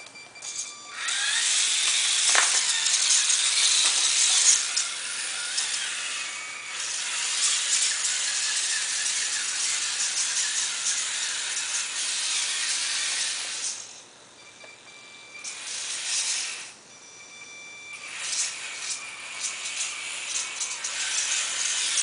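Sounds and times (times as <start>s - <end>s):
toy truck motor whirring: 0.4s - 14.0s, 15.4s - 16.8s, 17.9s - 22.0s.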